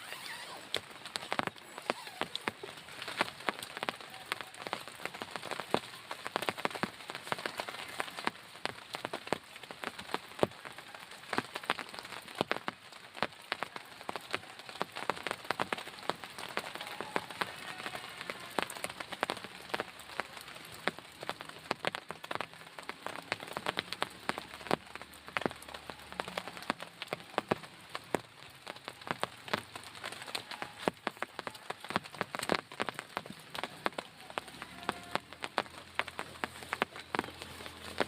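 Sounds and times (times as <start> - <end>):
rain pattering on tent: 0.0 - 38.0.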